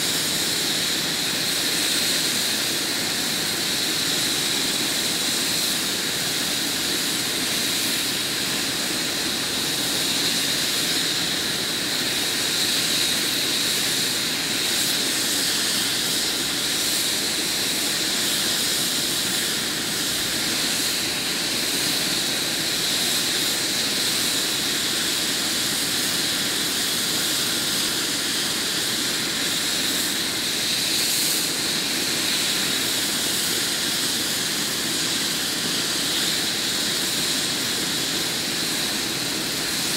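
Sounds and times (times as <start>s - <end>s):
constant rushing noise: 0.0s - 39.9s
helicopter turbine engine whine: 0.0s - 39.9s.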